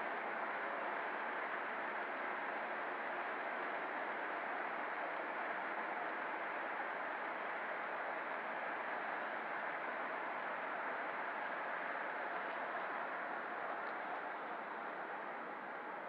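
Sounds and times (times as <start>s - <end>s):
model train cars rumbling on track: 0.0s - 16.0s.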